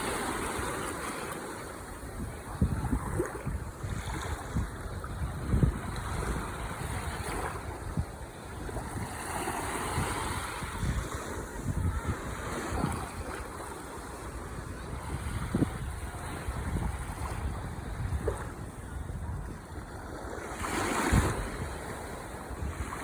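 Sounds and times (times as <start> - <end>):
ocean waves breaking: 0.0 - 23.0
wind buffeting microphone: 1.8 - 23.0.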